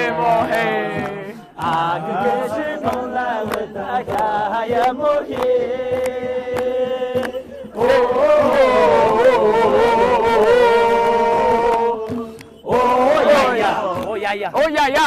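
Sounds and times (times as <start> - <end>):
music with a beat: 0.0 - 15.0
person singing folk melody: 0.0 - 15.0.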